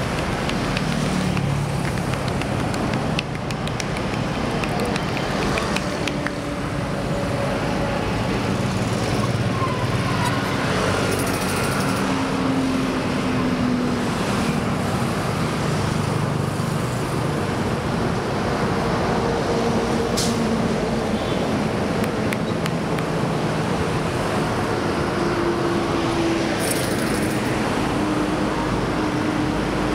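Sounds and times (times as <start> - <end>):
cars and motorbikes passing: 0.0 - 29.9
hum of engines and tyres: 0.0 - 29.9.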